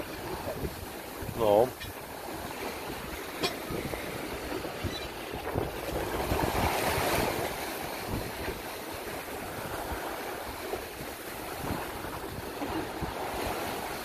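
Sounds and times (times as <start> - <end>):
waves splashing along hull: 0.0 - 14.0
wind on microphone: 0.0 - 14.0.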